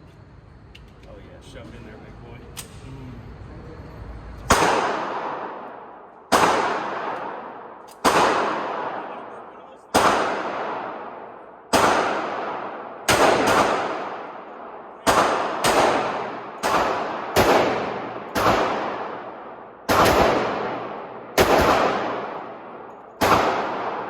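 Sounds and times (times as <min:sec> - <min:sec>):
pistol shots: 0:04.5 - 0:24.0.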